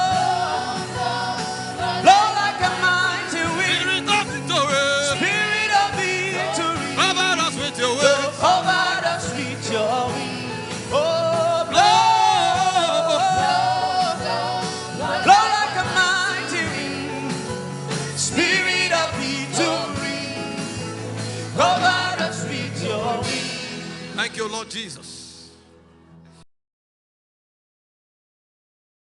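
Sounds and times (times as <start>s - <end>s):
person singing gospel: 0.0s - 25.0s
sustained musical backing: 0.0s - 26.4s.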